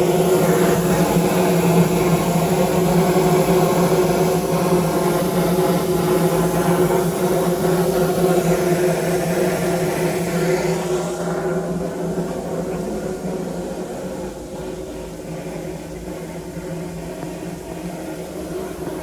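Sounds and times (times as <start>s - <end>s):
noisy hiss: 0.0s - 19.0s.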